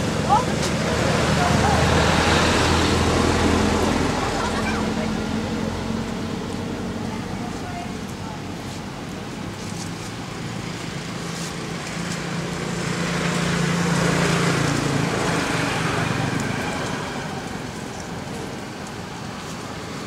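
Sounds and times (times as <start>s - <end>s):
vehicle passing by: 0.0s - 20.0s.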